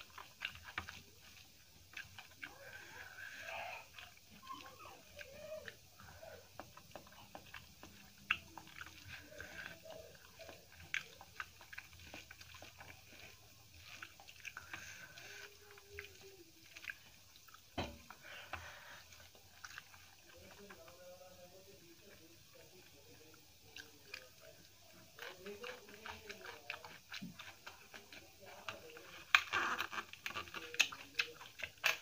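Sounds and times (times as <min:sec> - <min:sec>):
crisp crackles: 0:00.0 - 0:32.0
fingers squelching food: 0:00.0 - 0:32.0
wet chewing and lip-smacking: 0:00.0 - 0:32.0.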